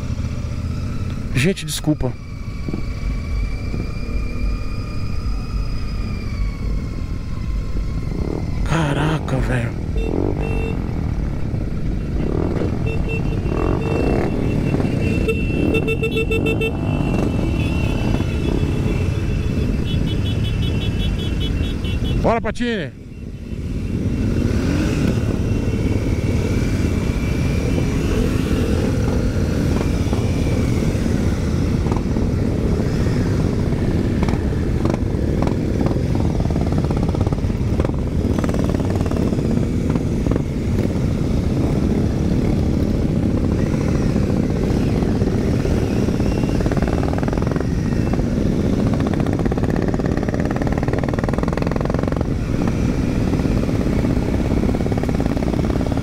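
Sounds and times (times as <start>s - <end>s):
motorcycle engines rumbling: 0.0s - 56.0s.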